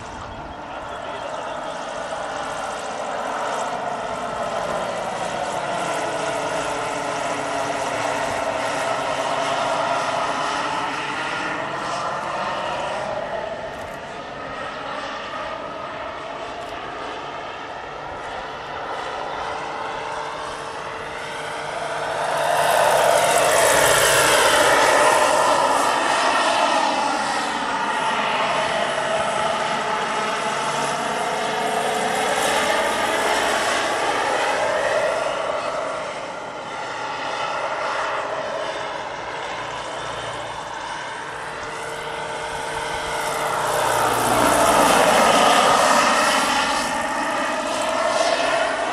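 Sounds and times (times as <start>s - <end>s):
helicopter rotor: 0.0s - 48.9s
model helicopter turbine whine: 0.0s - 48.9s.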